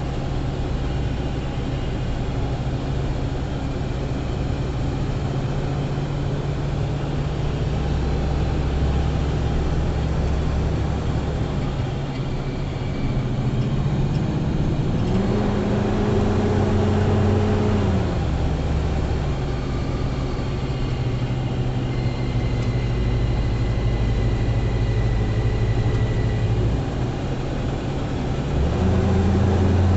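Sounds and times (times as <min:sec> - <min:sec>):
car engine: 0:00.0 - 0:29.9
road noise: 0:00.0 - 0:29.9.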